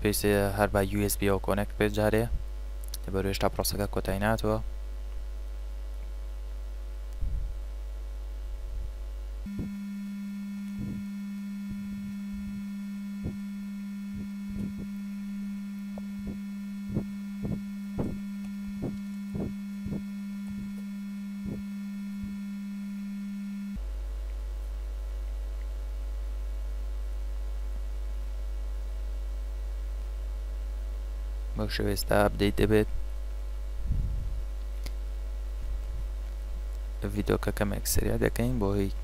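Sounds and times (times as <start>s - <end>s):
faint low hum: 0.0s - 39.0s
low electronic buzz: 0.0s - 39.0s.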